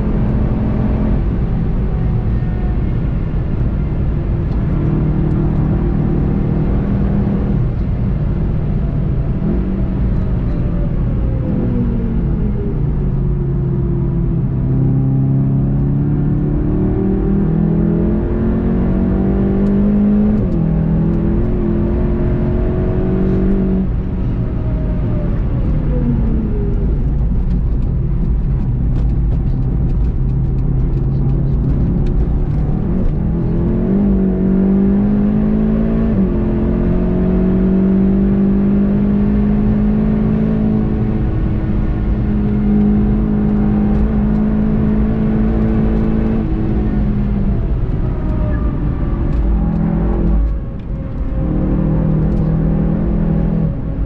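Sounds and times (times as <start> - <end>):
car engine accelerating hard: 0.0 - 54.0
road and wind noise: 0.0 - 54.0.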